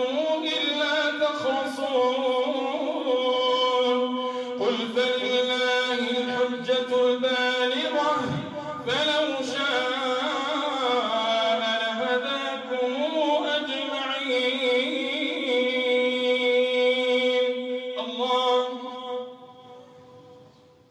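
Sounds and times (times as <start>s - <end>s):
man chanting into microphone: 0.0s - 20.4s.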